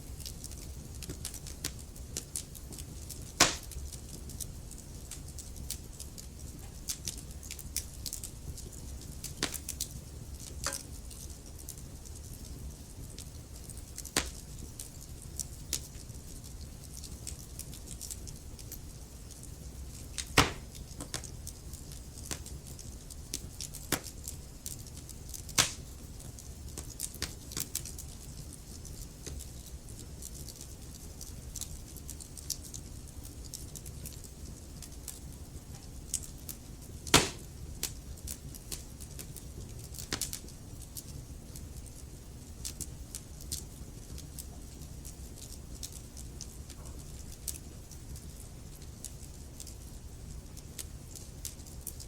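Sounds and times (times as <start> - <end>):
logs crackling and popping: 0.0 - 52.0
wood fire burning: 0.0 - 52.0.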